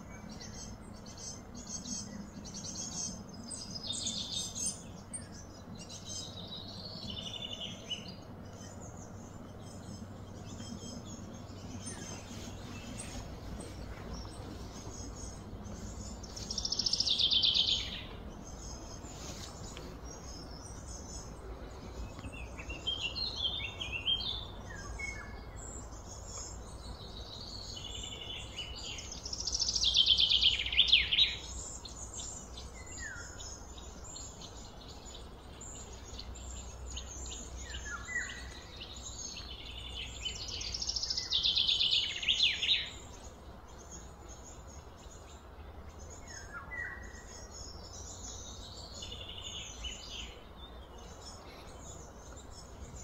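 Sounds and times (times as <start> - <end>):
birds chirping and singing: 0.0 - 53.0
outdoor background noise: 0.0 - 53.0.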